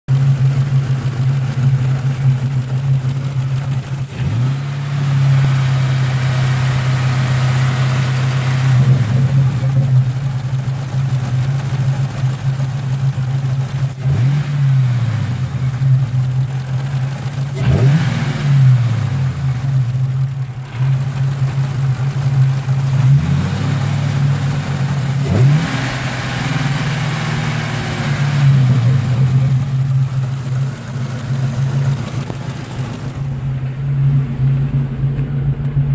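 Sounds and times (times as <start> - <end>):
car engine fast idle: 0.1 - 35.9.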